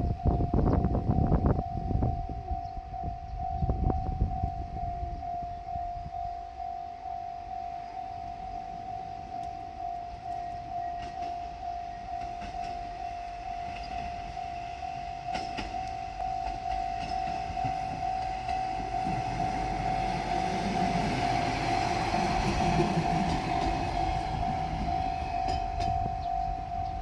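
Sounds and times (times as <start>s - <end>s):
diesel railcar rumble: 0.0s - 27.0s
level crossing bell ringing: 1.6s - 27.0s.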